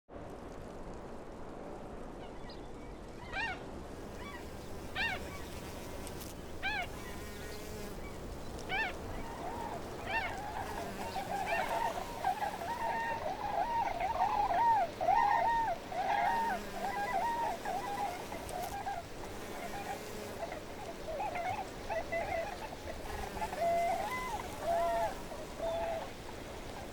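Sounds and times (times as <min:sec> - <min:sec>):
steady background hiss: 0:00.1 - 0:26.9
birds calling: 0:03.4 - 0:26.9
rapid overlapping lower bird calls: 0:04.2 - 0:26.9.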